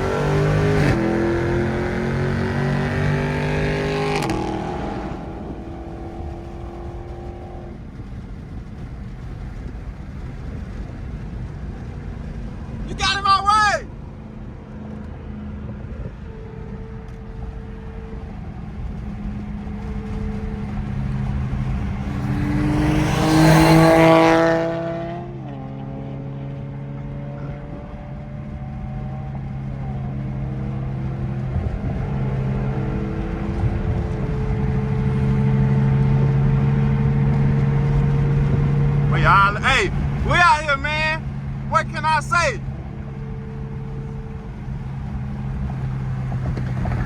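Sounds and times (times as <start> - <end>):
car engine accelerating through gears: 0.0 - 13.0, 14.0 - 41.8, 42.6 - 47.0.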